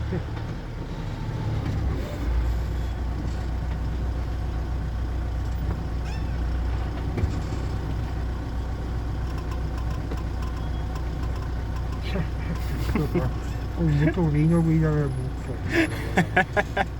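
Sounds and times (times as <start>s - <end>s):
vehicle engine rumble: 0.0s - 16.9s.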